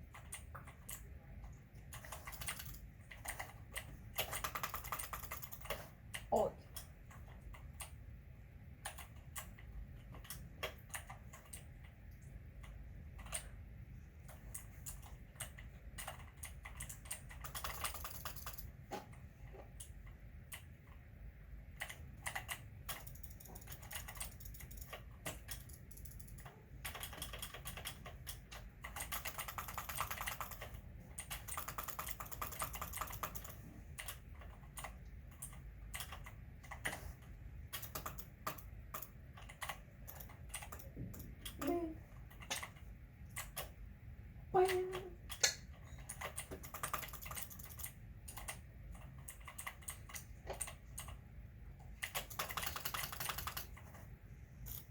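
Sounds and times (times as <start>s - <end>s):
typing on keyboard: 0.0s - 8.0s, 8.8s - 21.1s, 21.7s - 43.8s, 44.6s - 51.2s, 51.8s - 54.9s.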